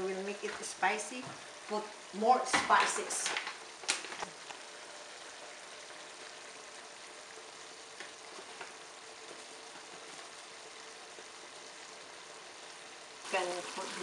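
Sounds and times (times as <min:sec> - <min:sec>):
giblets sizzling in a pan: 0:00.0 - 0:14.0.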